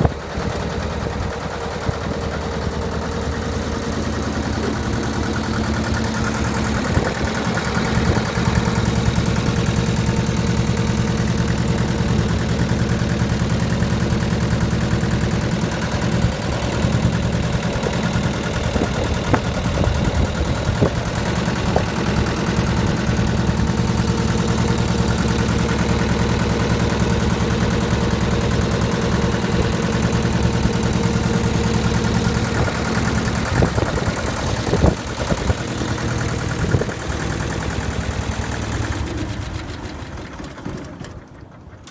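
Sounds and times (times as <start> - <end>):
tractor diesel engine idling: 0.0 - 41.9.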